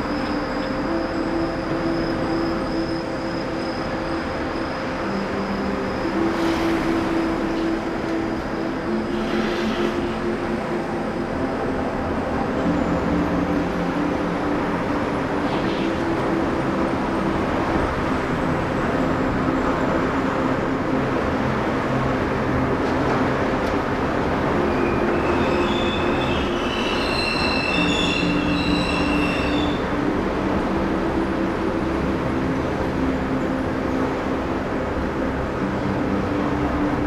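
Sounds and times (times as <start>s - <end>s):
humming tone: 0.0s - 37.0s
road and wind rumble: 0.0s - 37.0s.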